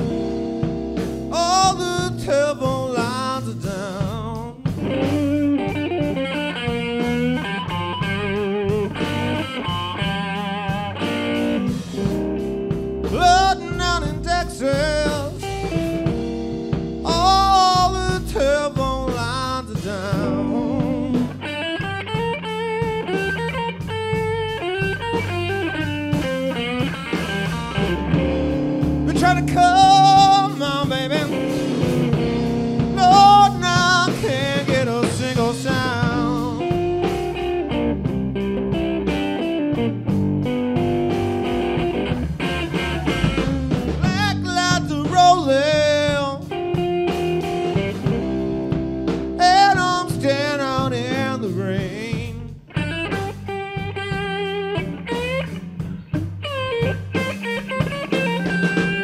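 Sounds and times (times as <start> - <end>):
band playing slow blues: 0.0 - 59.0
lead guitar notes with vibrato: 0.0 - 59.0.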